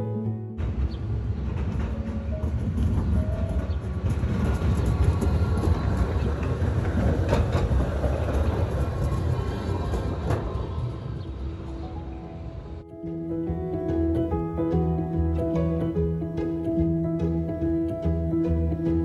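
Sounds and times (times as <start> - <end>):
tram wheels rumbling on rails: 0.6 - 19.0.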